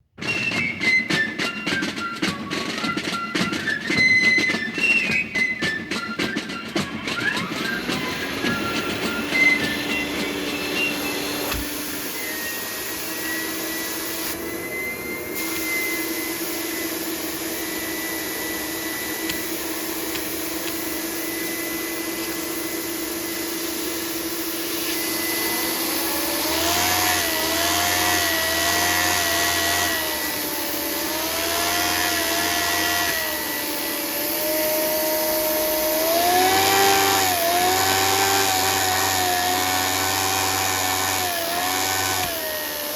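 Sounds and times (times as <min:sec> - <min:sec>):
model engine whirring: 0:00.0 - 0:42.9.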